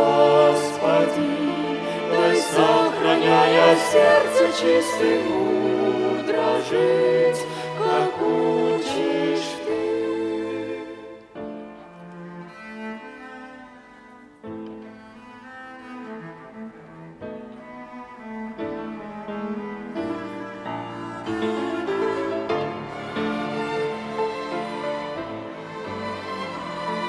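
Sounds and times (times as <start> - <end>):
violin ensemble playing: 0.0 - 27.0.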